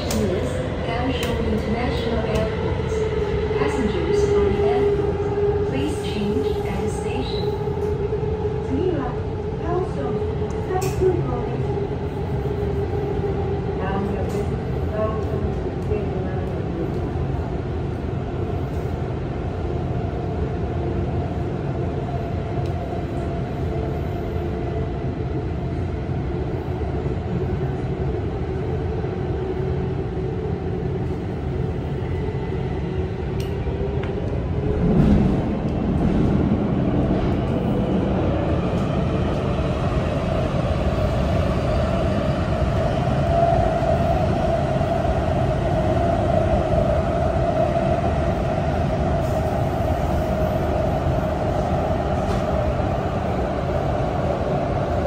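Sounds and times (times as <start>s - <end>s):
steady tonal hum: 0.0s - 55.0s
train rumbling: 0.0s - 55.0s.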